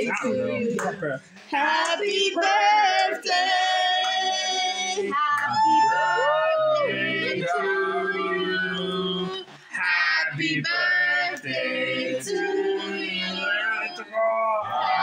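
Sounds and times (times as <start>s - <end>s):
men and women singing: 0.0s - 15.0s.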